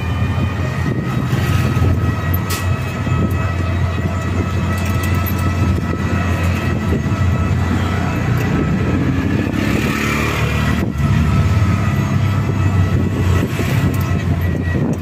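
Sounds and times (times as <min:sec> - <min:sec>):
road rumble: 0:00.0 - 0:15.0
wind buffeting microphone: 0:00.0 - 0:15.0.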